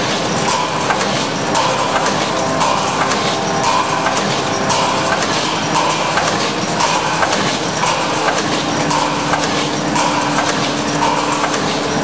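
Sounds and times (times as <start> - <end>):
machine clattering: 0.0 - 12.0
steady hum: 0.0 - 12.0.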